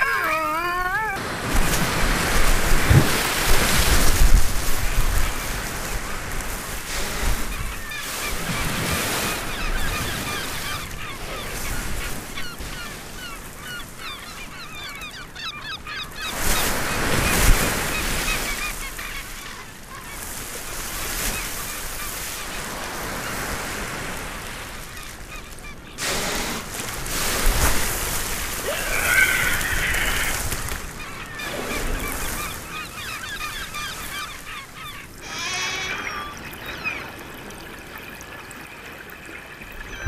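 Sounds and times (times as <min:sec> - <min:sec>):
water splashing: 0:00.0 - 0:14.2, 0:20.7 - 0:40.0
seabirds calling: 0:00.0 - 0:40.0.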